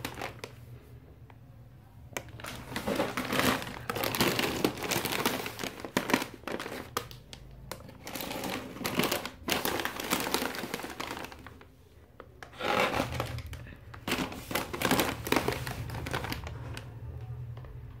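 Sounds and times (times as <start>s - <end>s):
plastic snack bags crinkling: 0.0s - 0.8s, 2.1s - 17.6s.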